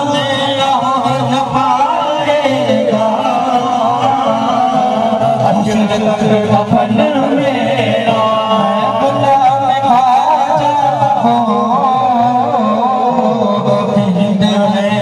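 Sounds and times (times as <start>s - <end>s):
devotional music backing: 0.0s - 15.0s.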